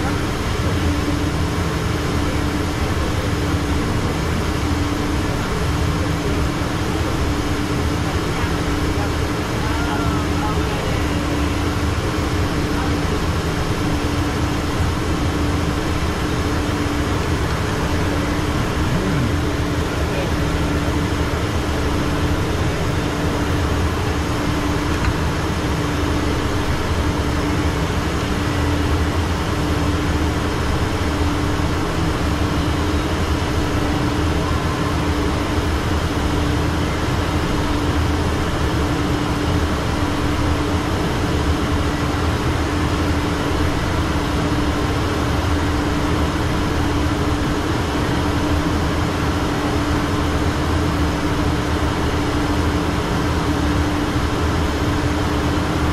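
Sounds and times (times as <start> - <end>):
jet airflow and engine rush: 0.0 - 55.9
steady droning hum: 0.0 - 55.9.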